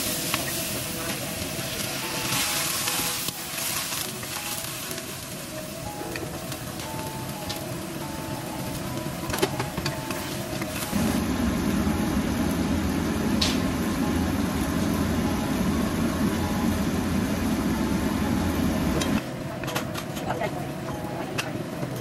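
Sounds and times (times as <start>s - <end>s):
gas burner rumble: 0.0s - 22.0s.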